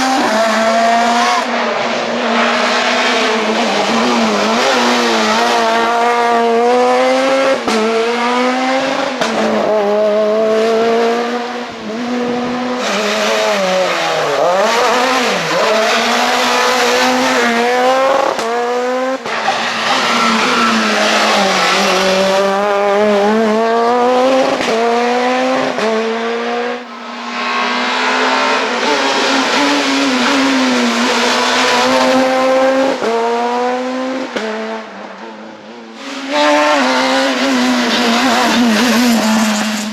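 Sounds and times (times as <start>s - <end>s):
rally car engine revving: 0.0s - 39.9s.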